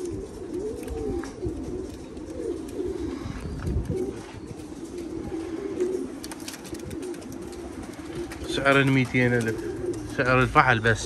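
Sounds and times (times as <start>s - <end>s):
pigeon cooing: 0.0s - 11.0s.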